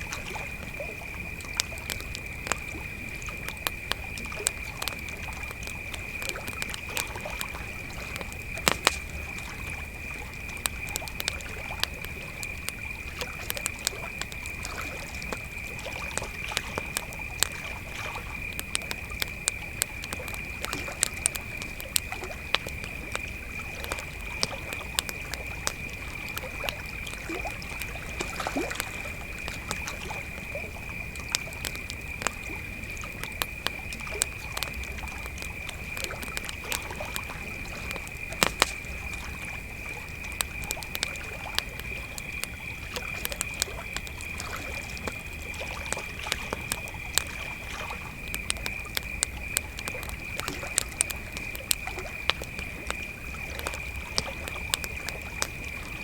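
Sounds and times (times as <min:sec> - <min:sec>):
campfire crackling and popping: 0:00.0 - 0:56.0
crickets chirring: 0:00.0 - 0:56.0.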